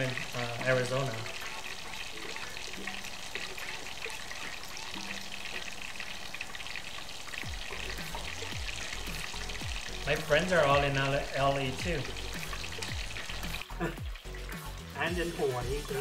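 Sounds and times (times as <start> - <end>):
oil sizzling and crackling: 0.0 - 16.0.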